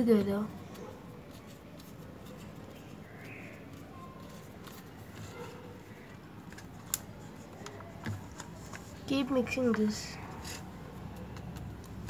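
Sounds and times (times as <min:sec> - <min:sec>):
straw stirring slime in plastic cup: 0:00.0 - 0:12.0.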